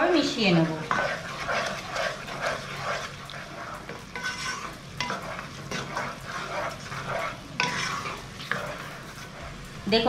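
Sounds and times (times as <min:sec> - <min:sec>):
spatula scraping in a pot: 0:00.0 - 0:09.7
vegetables sizzling: 0:00.0 - 0:10.0.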